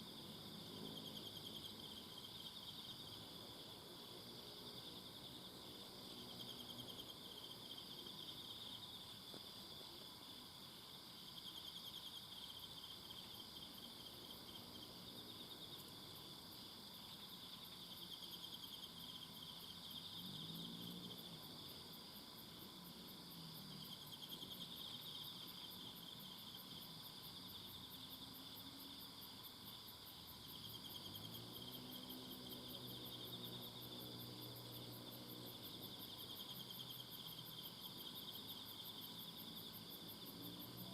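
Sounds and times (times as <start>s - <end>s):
crickets and insects trilling: 0.0s - 40.9s.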